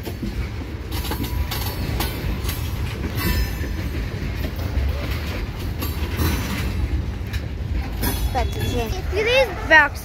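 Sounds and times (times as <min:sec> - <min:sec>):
train rumble: 0:00.0 - 0:10.0
wheels clacking over rail joints: 0:00.0 - 0:10.0.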